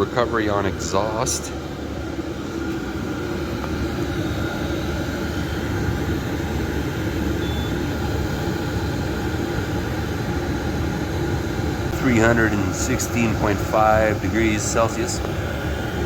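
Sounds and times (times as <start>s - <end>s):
air heater blower humming: 0.0s - 16.0s.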